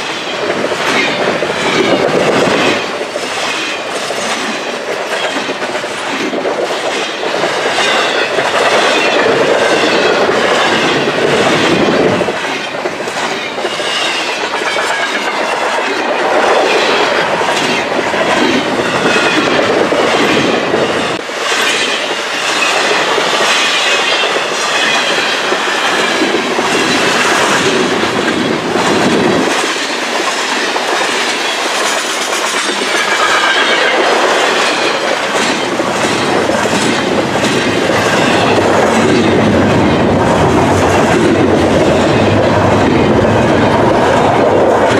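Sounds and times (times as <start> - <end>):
freight train rolling past: 0.0 - 44.9.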